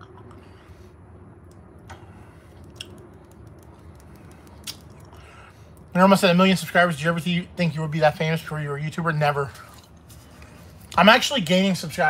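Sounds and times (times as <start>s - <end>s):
low rumble inside bus: 0.0s - 11.1s.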